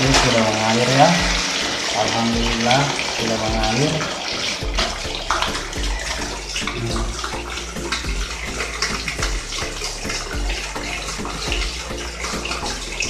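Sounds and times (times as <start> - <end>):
water gushing into basin: 0.0 - 13.0.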